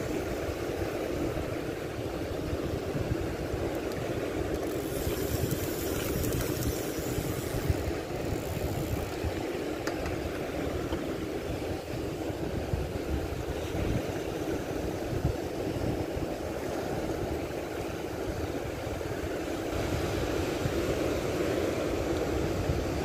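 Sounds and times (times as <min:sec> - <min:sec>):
sea waves breaking: 0:00.0 - 0:23.0
wind rumble on microphone: 0:00.0 - 0:23.0.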